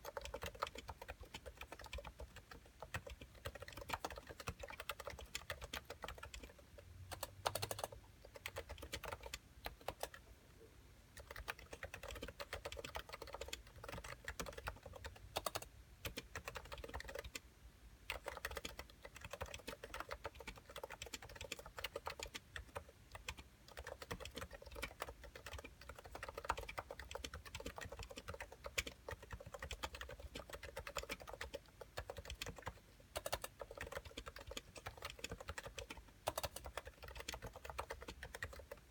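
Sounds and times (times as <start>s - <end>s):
keyboard typing: 0.0s - 10.3s, 11.2s - 17.4s, 18.1s - 38.9s.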